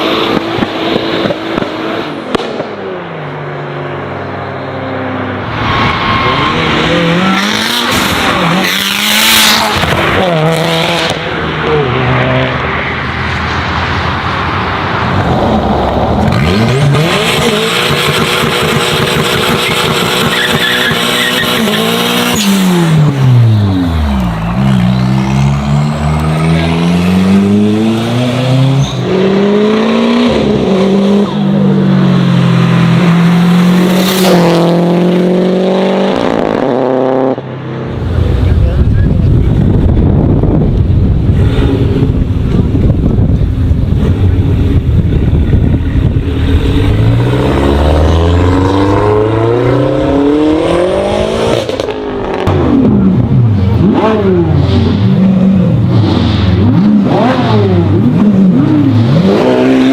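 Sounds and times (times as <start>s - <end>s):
sports car engines accelerating: 0.0s - 59.9s.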